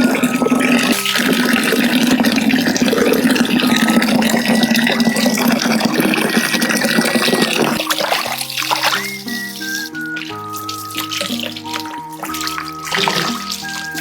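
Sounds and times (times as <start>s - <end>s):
tap water splashing into sink: 0.0s - 14.0s.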